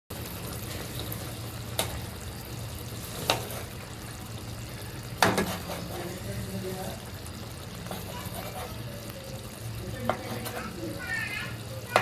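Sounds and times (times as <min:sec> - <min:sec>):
curry bubbling and sizzling: 0:00.1 - 0:12.0.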